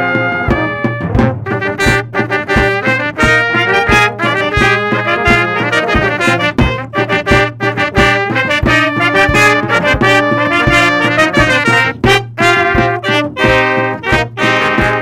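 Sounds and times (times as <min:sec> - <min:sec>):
brass ensemble playing a tune: 0:00.0 - 0:15.0
drum kit and timpani hits: 0:00.0 - 0:15.0.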